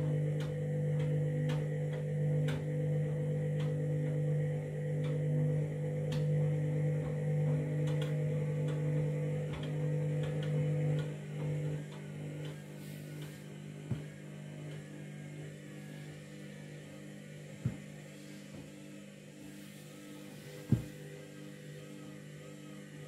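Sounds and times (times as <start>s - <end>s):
washing machine motor humming: 0.0s - 23.0s.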